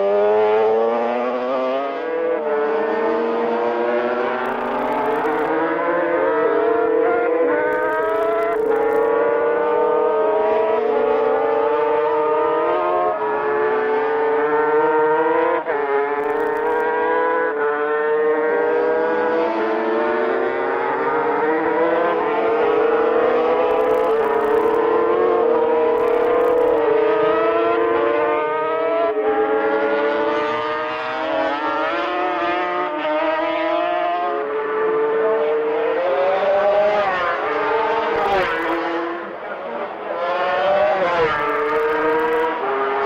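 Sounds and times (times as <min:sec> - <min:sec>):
racing motorcycle engines whining: 0:00.0 - 0:43.0.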